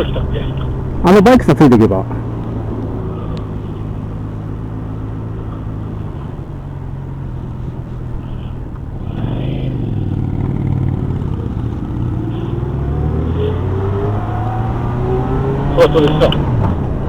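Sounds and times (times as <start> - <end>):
motorcycle engine running: 2.0 - 17.0.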